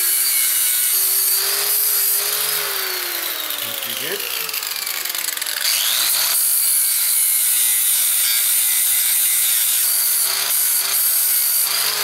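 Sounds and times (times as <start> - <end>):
power grinder grinding metal: 0.0 - 12.0.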